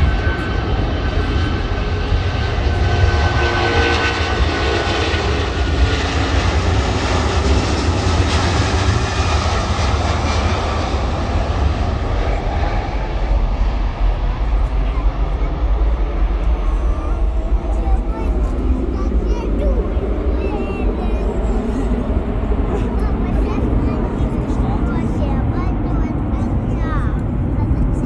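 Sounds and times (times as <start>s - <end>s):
faint engine whine: 0.0s - 28.0s
jet engines rumbling: 0.0s - 28.0s.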